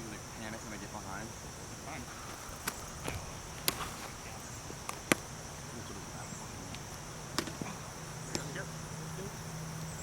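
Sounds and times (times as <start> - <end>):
high-pitched insect drone: 0.1 - 10.0.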